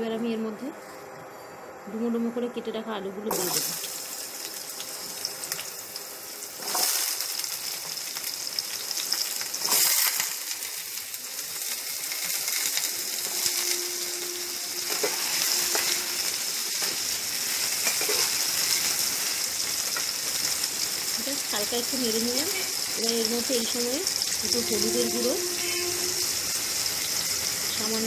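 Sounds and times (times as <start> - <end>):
potatoes sizzling in oil: 3.3 - 28.0.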